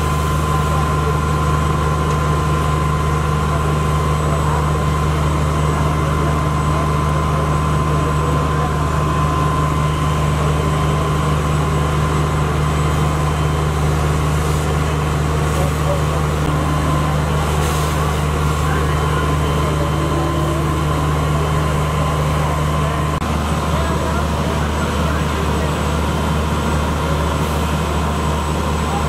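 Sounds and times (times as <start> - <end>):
fire engine pump running: 0.0 - 29.0.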